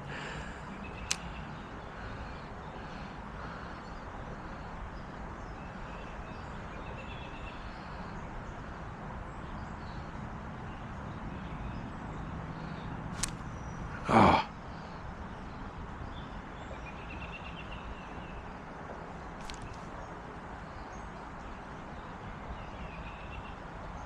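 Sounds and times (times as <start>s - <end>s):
faint bird chirps: 0.0s - 24.0s
low outdoor rush: 0.0s - 24.0s.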